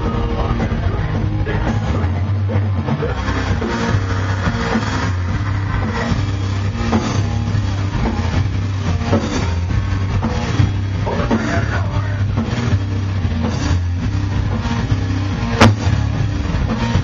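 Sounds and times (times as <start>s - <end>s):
heavy metal band playing: 0.0s - 17.0s.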